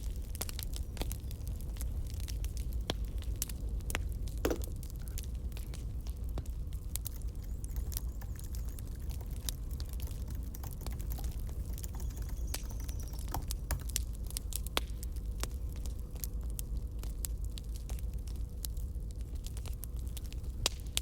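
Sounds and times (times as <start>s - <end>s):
low fire rumble: 0.0s - 12.0s, 12.6s - 21.0s
burning wood popping and snapping: 0.0s - 21.0s.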